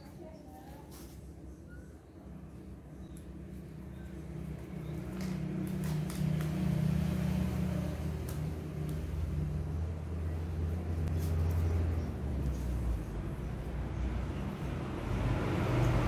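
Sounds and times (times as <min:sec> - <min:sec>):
vehicle engine humming: 0:01.2 - 0:16.0.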